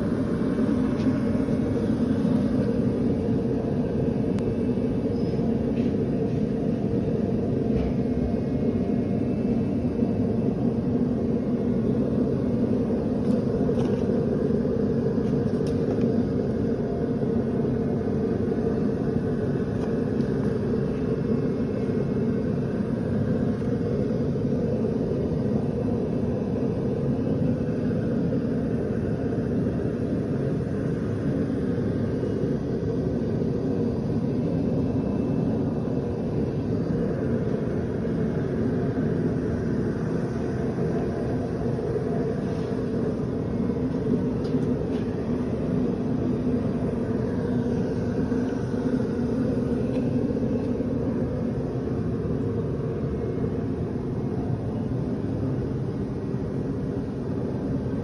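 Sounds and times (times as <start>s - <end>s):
low machinery rumble with hum: 0.0s - 58.0s.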